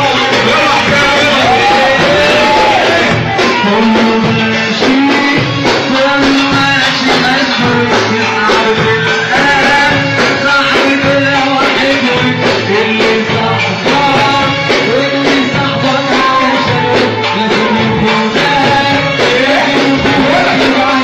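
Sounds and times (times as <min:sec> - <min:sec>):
drums and percussion beat: 0:00.0 - 0:21.0.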